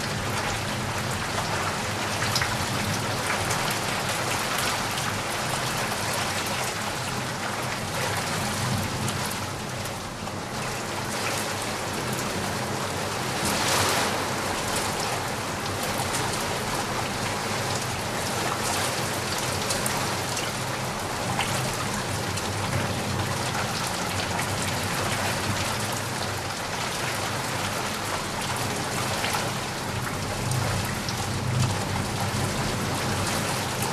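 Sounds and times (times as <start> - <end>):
rain pattering on surfaces: 0.0 - 33.9.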